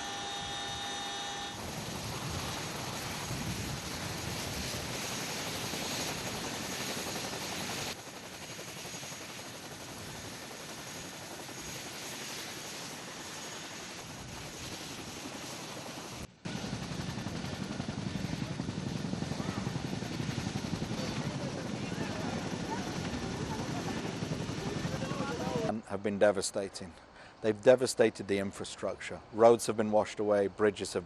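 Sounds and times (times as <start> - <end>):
helicopter engine and rotor: 0.0 - 25.7
high turbine whine: 0.0 - 25.7.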